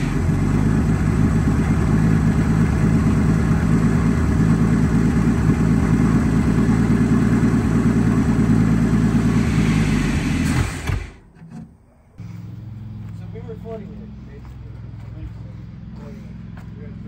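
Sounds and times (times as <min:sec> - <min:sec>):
truck engine running: 0:00.0 - 0:11.3, 0:12.1 - 0:17.0.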